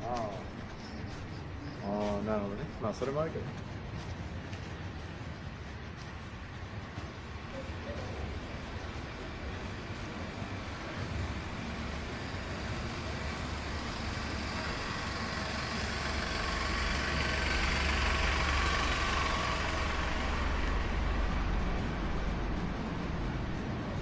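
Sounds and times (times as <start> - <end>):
road vehicle passing: 0.0 - 24.0.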